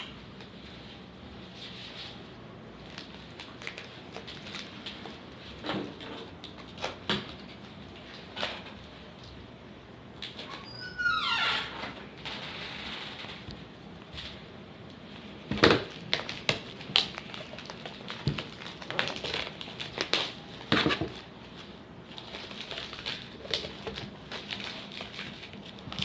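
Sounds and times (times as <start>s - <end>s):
crinkling plastic packaging: 0.0s - 9.4s, 12.0s - 26.0s.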